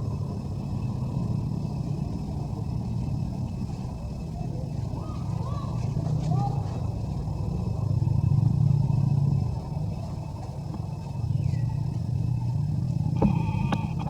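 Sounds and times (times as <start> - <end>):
low motor rumble: 0.0 - 14.0.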